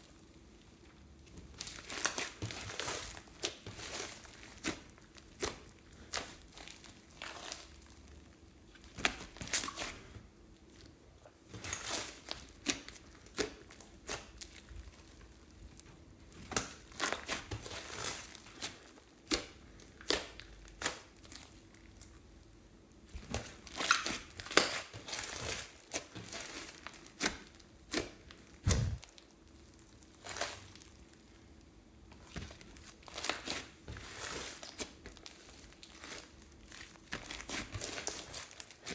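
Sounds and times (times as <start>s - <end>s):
slime crackling and squelching: 0.4s - 38.9s.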